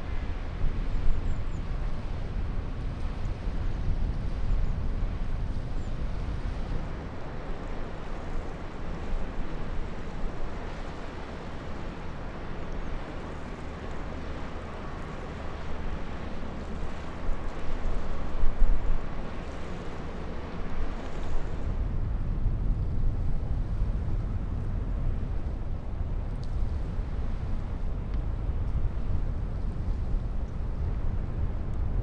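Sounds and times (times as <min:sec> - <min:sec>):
wind buffeting microphone: 0:00.0 - 0:32.0
ship engine rumble: 0:03.8 - 0:32.0.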